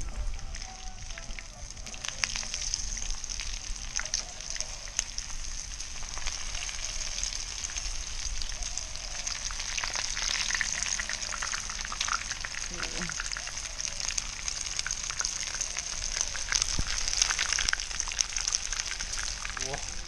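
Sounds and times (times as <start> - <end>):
fish sizzling and popping in oil: 0.0 - 20.0.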